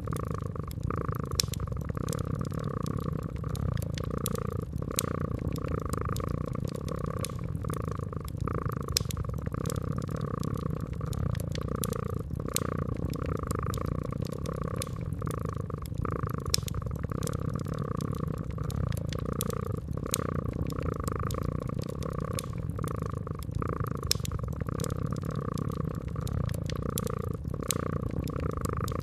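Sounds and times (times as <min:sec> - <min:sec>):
cat purring: 0:00.0 - 0:29.0
wood fire crackling: 0:00.0 - 0:29.0.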